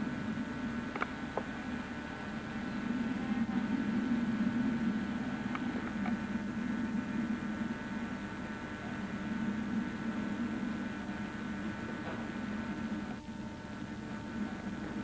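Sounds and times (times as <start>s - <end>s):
camcorder hum and hiss: 0.0s - 15.0s.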